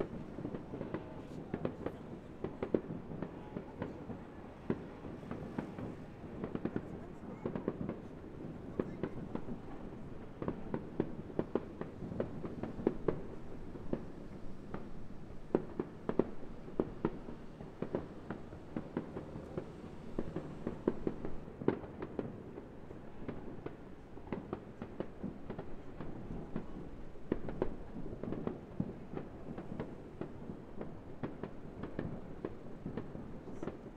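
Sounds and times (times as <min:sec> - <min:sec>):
distant firework bursts: 0:04.0 - 0:33.9.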